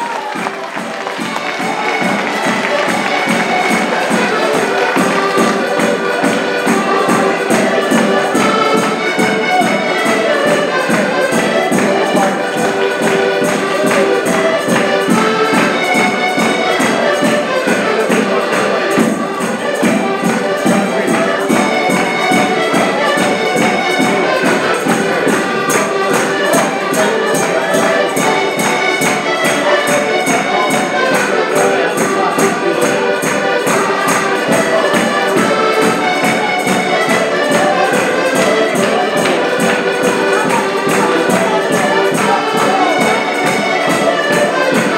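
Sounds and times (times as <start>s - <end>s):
accordions playing folk tune: 0.0s - 44.9s.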